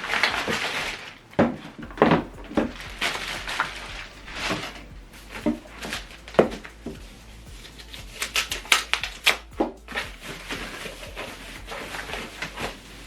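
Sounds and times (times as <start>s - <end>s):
rubbing and rustling: 0.0s - 13.0s.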